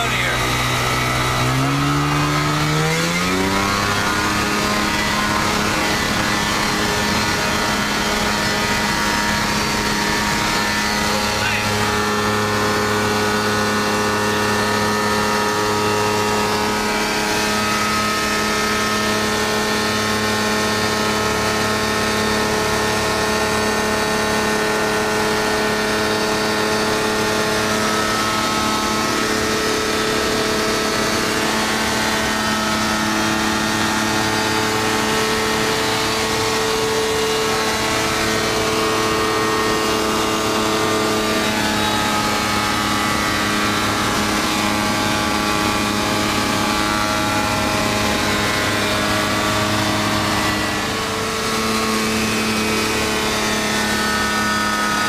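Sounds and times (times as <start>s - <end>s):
light airplane engine drone: 0.0s - 55.0s.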